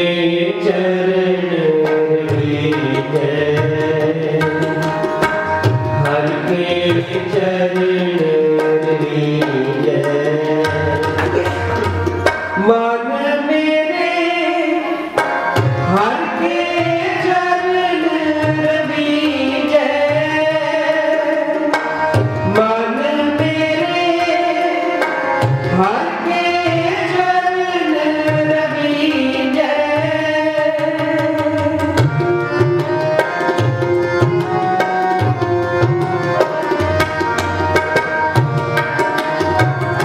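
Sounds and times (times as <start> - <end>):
harmonium: 0.0 - 40.0
man singing devotional melody: 0.0 - 40.0.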